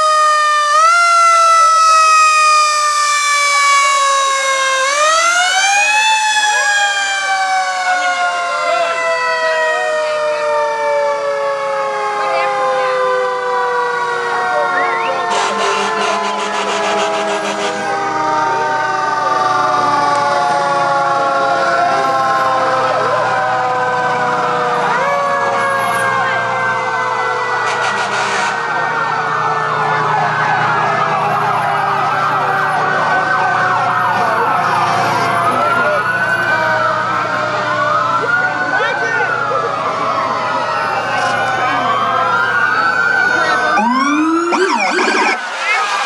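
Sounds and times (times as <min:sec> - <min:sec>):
fire truck sirens wailing: 0:00.0 - 0:46.0
truck engine: 0:00.0 - 0:46.0.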